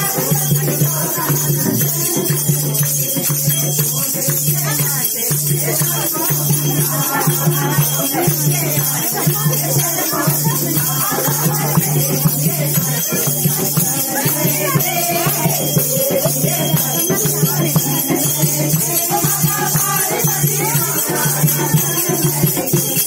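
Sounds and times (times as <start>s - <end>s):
hand drum beat: 0.0s - 23.0s
jingling hand percussion: 0.0s - 23.0s
women singing devotional song: 0.0s - 23.0s.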